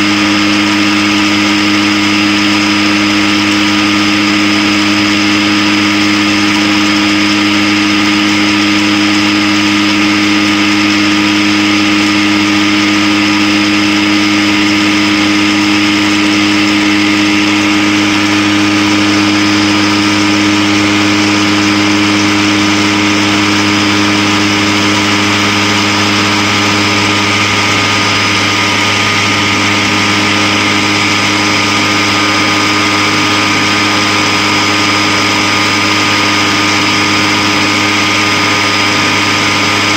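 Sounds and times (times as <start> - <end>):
centrifuge motor humming: 0.0 - 39.9.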